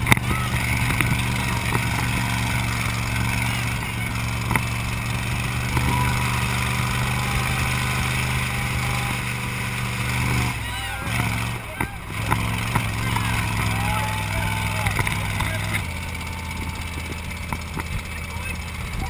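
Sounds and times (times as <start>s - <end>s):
dune buggy engine droning: 0.0s - 19.0s.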